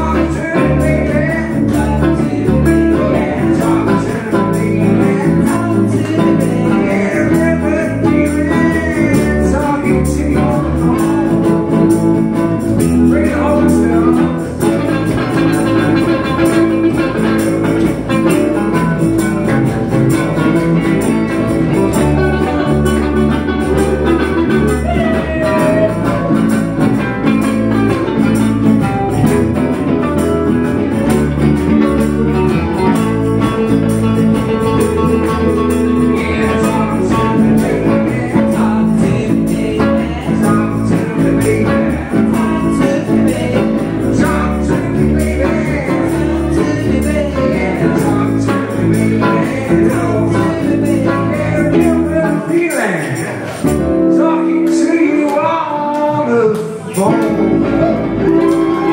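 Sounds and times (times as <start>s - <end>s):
live blues band with guitars: 0.0s - 58.9s.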